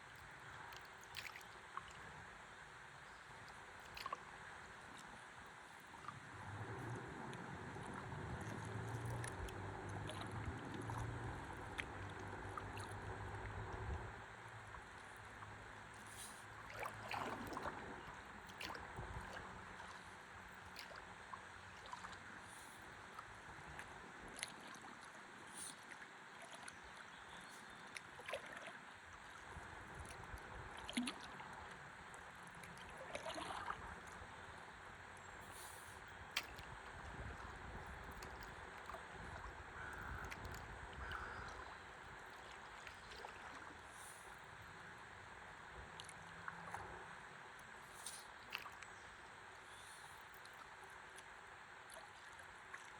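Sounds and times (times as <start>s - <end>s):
river water lapping: 0.0s - 52.9s
small water splashes and drips: 0.0s - 52.9s.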